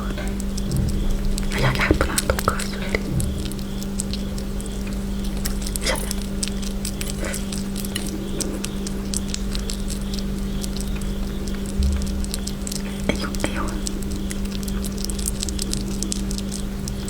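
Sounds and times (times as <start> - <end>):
small animal chewing crunchily: 0.0 - 17.0
steady low hum: 0.0 - 17.0.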